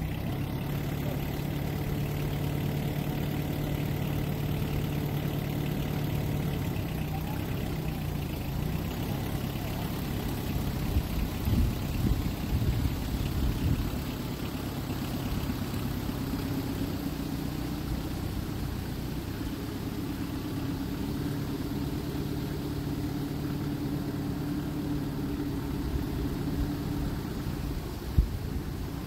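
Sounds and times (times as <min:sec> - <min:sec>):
diesel tractor engine running: 0:00.0 - 0:29.0.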